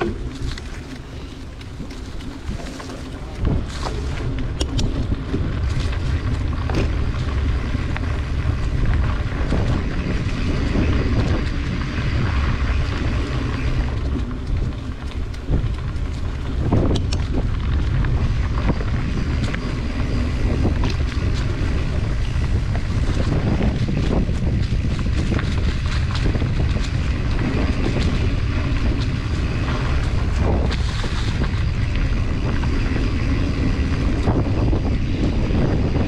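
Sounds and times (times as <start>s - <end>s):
bike clicks and rattles: 0.0s - 36.0s
tyres on dirt trail: 0.0s - 36.0s
wind buffeting microphone: 0.0s - 36.0s.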